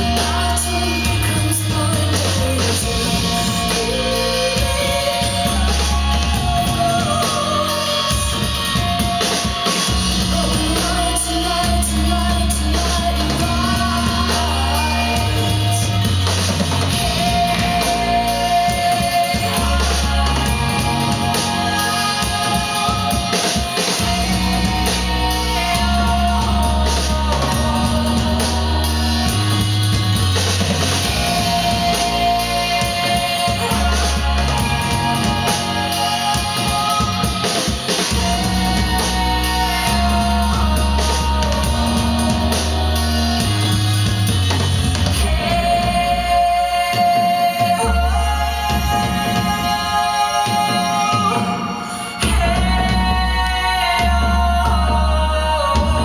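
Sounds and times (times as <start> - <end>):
deep held bass notes: 0.0 - 9.3, 9.9 - 37.5, 38.1 - 56.0
drums: 0.0 - 56.0
guitar: 0.0 - 56.0
person singing: 0.0 - 56.0.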